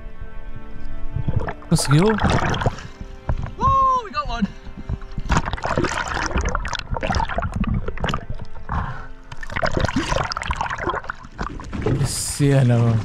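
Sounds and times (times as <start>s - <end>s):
background music: 0.0s - 13.0s
underwater bubbles and churning: 0.7s - 3.7s, 4.4s - 13.0s.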